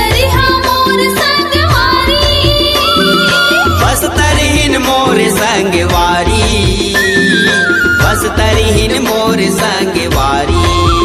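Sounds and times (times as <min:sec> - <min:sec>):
drum beat: 0:00.0 - 0:11.0
folk dance song: 0:00.0 - 0:11.0.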